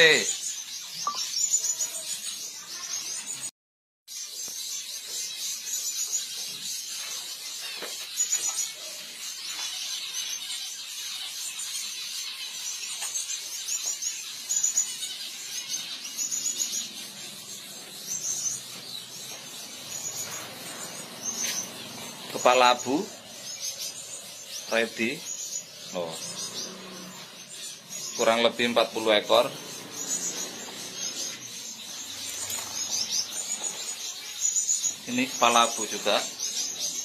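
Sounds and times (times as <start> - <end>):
finches chirping: 0.0 - 3.5, 4.1 - 37.0.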